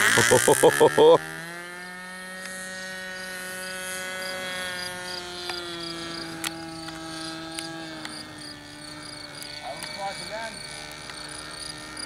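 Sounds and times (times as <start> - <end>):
model airplane engine flying past: 0.0 - 12.0.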